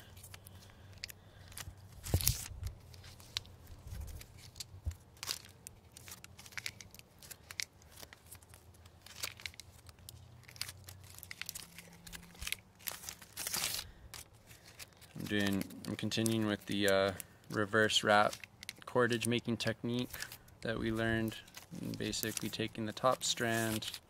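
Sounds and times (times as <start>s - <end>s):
plastic bag strips crinkling: 0.0s - 24.0s.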